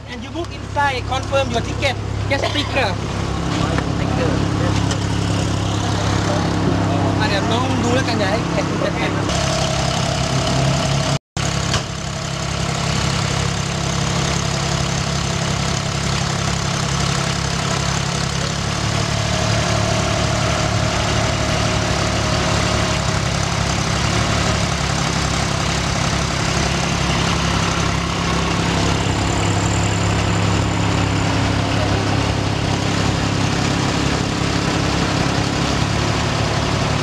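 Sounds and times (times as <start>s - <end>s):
bus engine idling: 0.0s - 37.0s.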